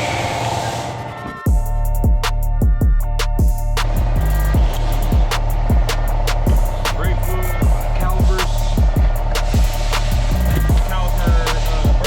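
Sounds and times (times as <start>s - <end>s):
deep bass kicks: 1.5s - 12.0s.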